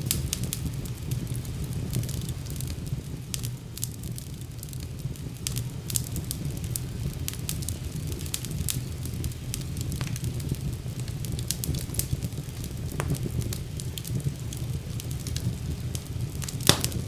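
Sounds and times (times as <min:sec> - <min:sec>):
fire crackling and popping: 0:00.0 - 0:17.0
flames rumbling: 0:00.0 - 0:17.0.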